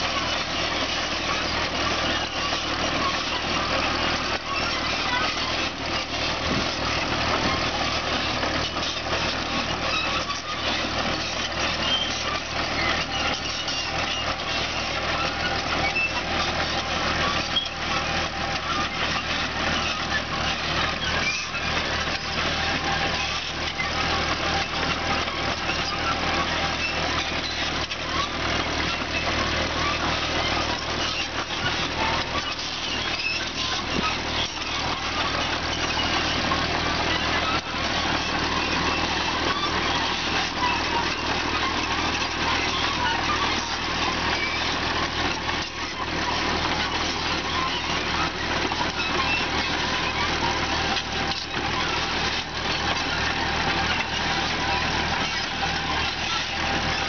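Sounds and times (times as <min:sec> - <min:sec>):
diesel engine running: 0:00.0 - 0:57.0
track and bucket clanks: 0:00.0 - 0:57.0.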